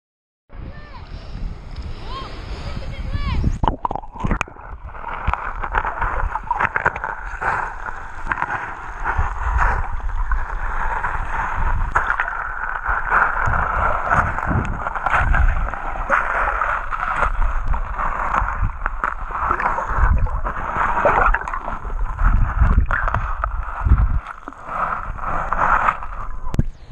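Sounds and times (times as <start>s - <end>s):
underwater water wash: 1.4s - 26.9s.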